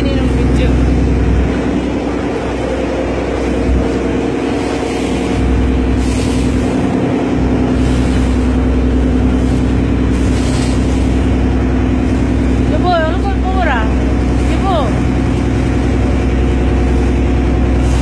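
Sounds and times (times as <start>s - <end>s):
ferry engine droning: 0.0s - 18.0s
wind rumble on microphone: 0.0s - 18.0s.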